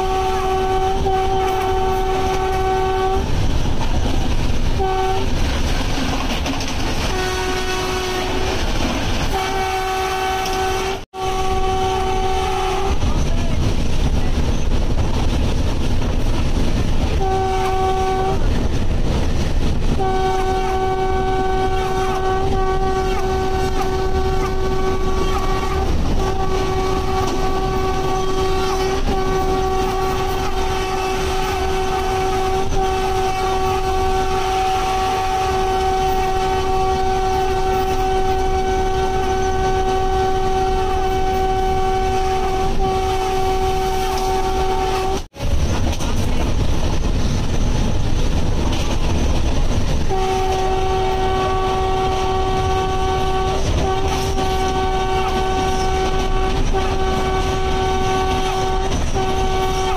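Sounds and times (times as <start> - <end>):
locomotive horn: 0.0 - 3.4, 4.7 - 13.7, 17.0 - 18.7, 19.8 - 45.5, 49.9 - 59.9
locomotive and wheels rumbling: 0.0 - 59.9.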